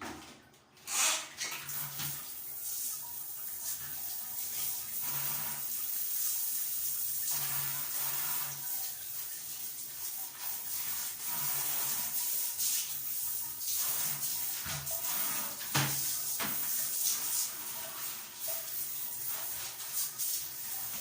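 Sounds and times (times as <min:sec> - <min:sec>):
tap water running and splashing: 0:00.0 - 0:21.0.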